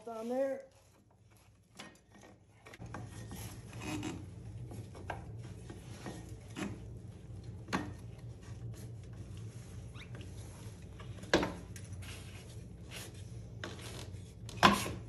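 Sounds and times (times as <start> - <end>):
rubber belt rubbing and scraping: 0.0 - 7.4, 8.0 - 15.0
steady low hum: 2.4 - 15.0.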